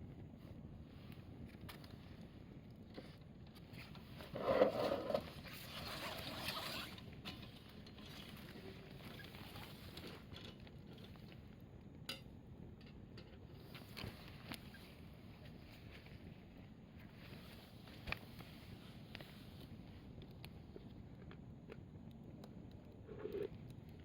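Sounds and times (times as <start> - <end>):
fire crackle: 0.0 - 24.0
firewood burning: 0.0 - 24.0.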